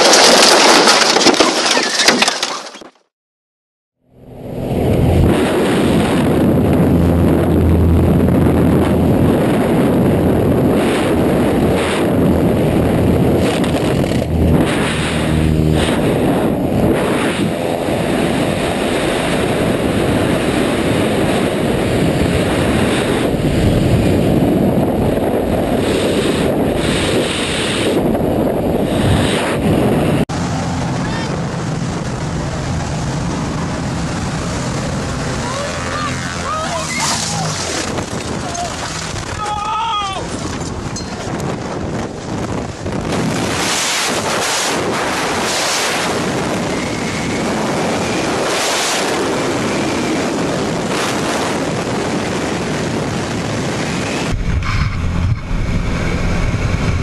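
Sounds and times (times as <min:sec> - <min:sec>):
aircraft engine drone: 0:04.0 - 0:39.3, 0:40.2 - 0:57.0
wind buffeting microphone: 0:04.3 - 0:57.0.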